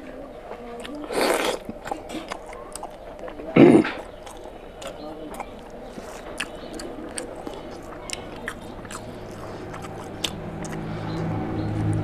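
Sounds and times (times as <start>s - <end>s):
chewing with wet mouth clicks: 0.5s - 12.0s.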